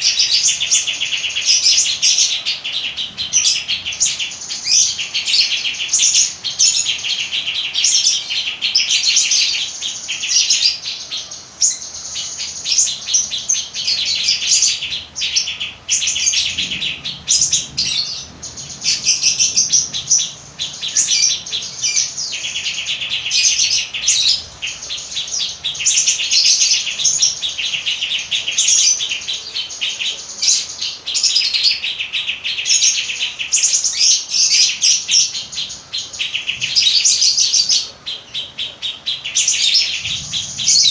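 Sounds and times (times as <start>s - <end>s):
songbird chattering trills: 0.0s - 40.9s.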